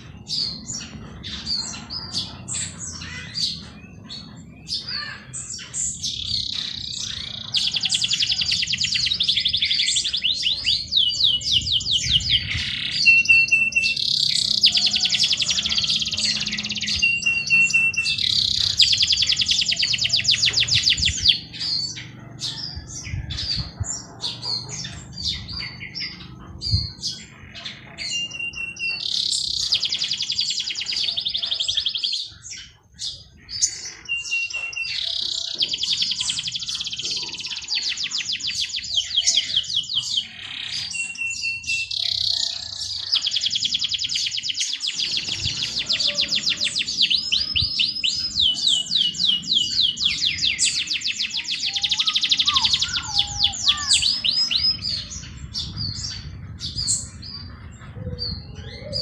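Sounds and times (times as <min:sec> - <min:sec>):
songbirds trilling: 0:00.0 - 0:59.0.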